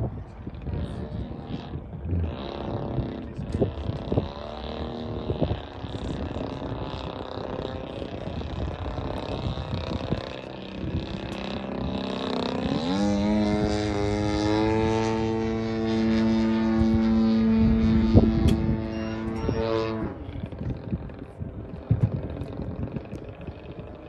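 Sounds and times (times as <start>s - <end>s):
model plane motor buzzing: 0.0s - 24.0s.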